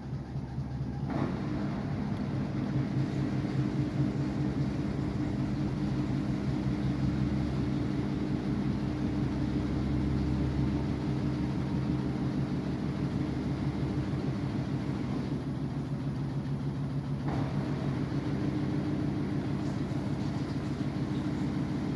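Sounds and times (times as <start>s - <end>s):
washing machine droning: 0.0s - 21.9s.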